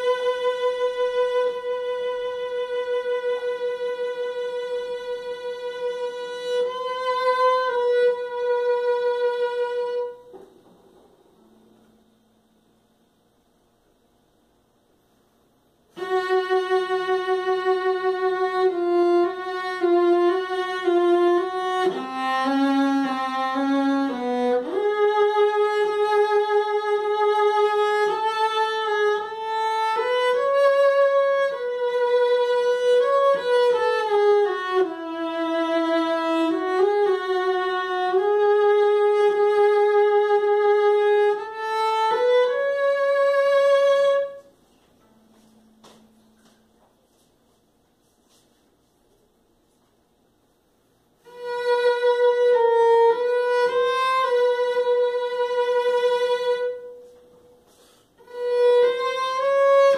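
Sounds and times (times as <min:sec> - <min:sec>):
bowed cello melody: 0:00.0 - 0:11.9, 0:15.9 - 0:46.5, 0:51.2 - 0:59.9.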